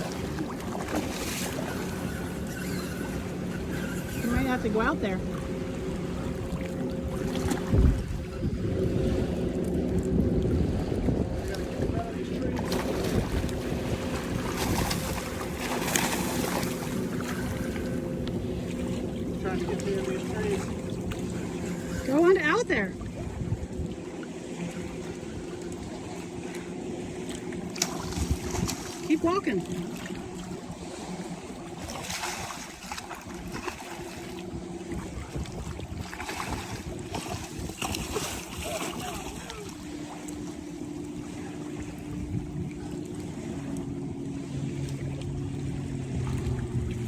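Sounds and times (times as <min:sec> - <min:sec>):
faint even drone: 0:00.0 - 0:47.0
wind buffeting microphone: 0:00.0 - 0:47.0.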